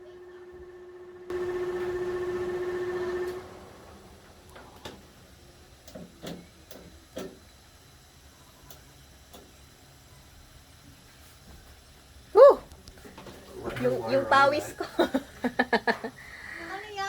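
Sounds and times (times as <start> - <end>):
range hood fan running: 0.0 - 17.0.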